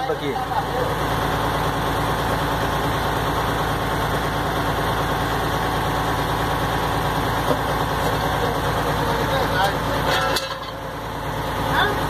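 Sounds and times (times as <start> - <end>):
water pump pulsing churn: 0.0 - 12.0.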